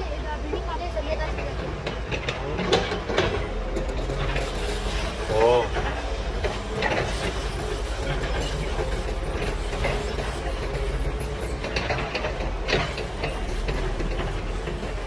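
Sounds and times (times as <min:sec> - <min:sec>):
excavator diesel engine running: 0:00.0 - 0:15.0
clatter of concrete debris: 0:01.4 - 0:15.0.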